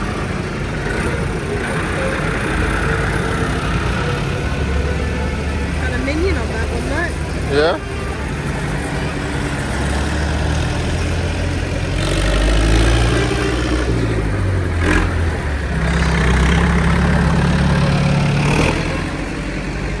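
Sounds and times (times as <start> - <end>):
tractor engines passing: 0.0 - 20.0.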